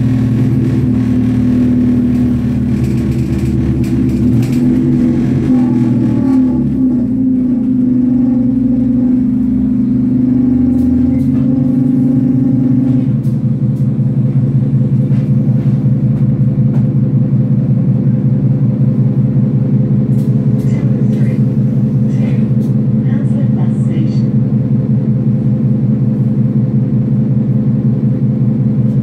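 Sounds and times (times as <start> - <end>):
bus engine drone: 0.0 - 29.0
drivetrain whine: 0.0 - 29.0.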